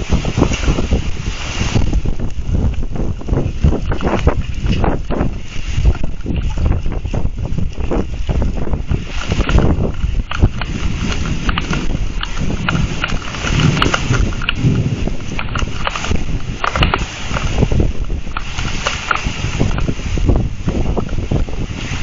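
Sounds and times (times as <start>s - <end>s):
gusting wind: 0.0s - 22.0s
heavy rain: 0.0s - 22.0s
raindrops hitting microphone: 0.0s - 22.0s.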